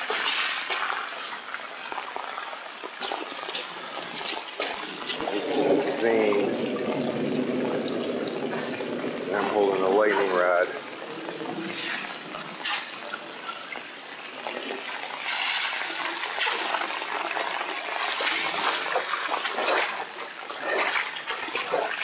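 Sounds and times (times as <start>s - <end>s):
heavy rain downpour: 0.0s - 22.0s
runoff water streaming: 0.0s - 22.0s.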